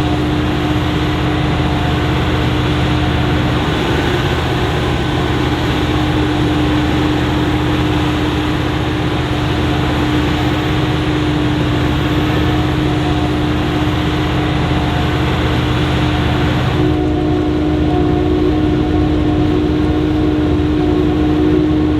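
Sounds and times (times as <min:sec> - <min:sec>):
diesel engine drone: 0:00.0 - 0:21.9
mid-pitched machine hum: 0:00.0 - 0:21.9.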